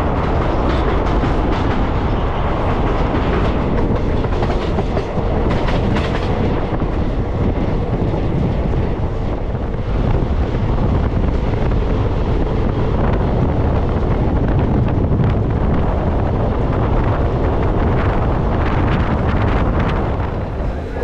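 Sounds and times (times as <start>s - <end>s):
train rumbling: 0.0s - 21.0s
wind buffeting microphone: 0.0s - 21.0s.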